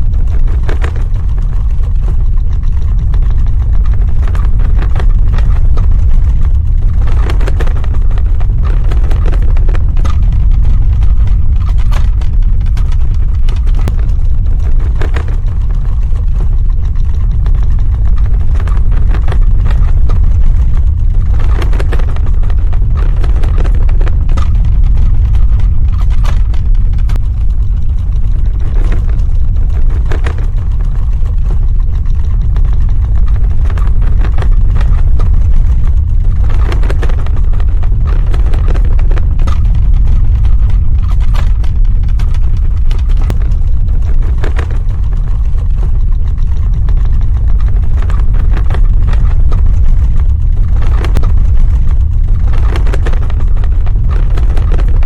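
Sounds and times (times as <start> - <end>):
crackling and rattling: 0.0 - 55.0
deep ground rumble: 0.0 - 55.0.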